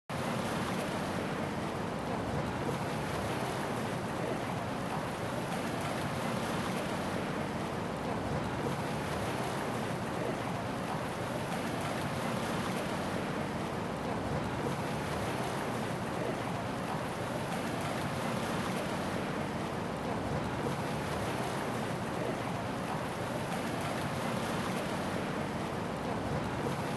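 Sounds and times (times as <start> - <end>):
sea waves washing: 0.1 - 26.9.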